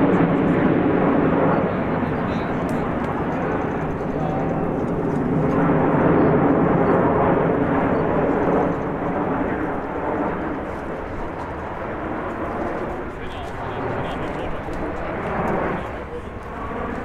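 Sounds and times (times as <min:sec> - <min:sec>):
jets passing overhead: 0:00.0 - 0:17.0.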